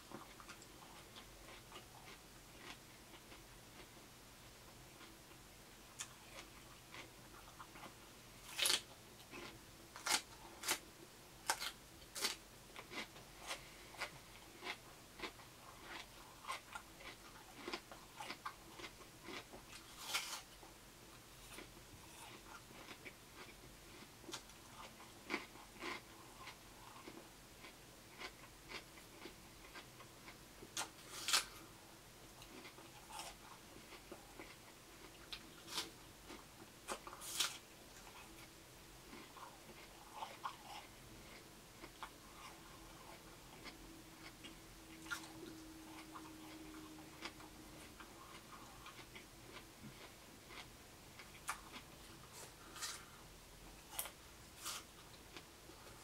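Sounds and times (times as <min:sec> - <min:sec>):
person biting and chewing crunchy food: 0:06.0 - 0:20.6, 0:21.4 - 0:31.7, 0:32.4 - 0:56.0.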